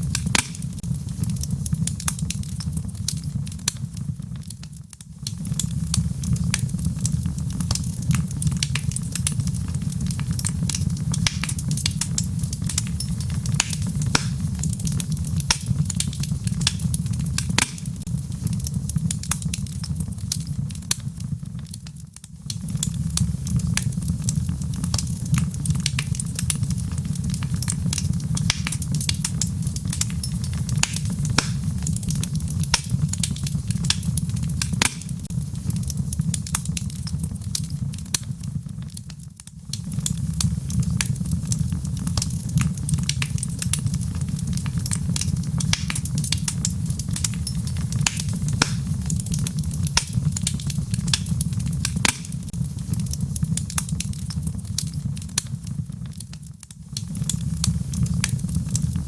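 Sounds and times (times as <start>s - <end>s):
log fire crackling and popping: 0.0s - 59.0s.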